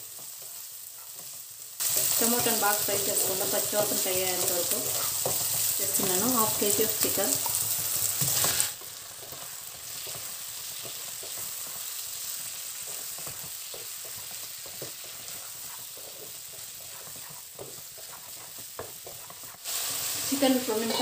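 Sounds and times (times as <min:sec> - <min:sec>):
chicken sizzling in oil: 0:00.0 - 0:21.0
wooden spatula scraping a pan: 0:00.1 - 0:21.0.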